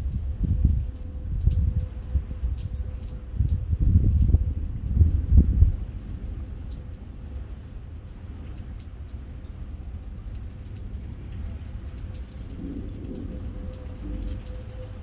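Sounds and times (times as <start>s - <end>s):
raindrops ticking and dripping: 0.0s - 15.0s.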